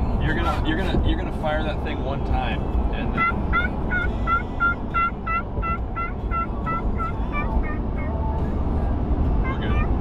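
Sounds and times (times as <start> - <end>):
truck cab road rumble: 0.0 - 10.0.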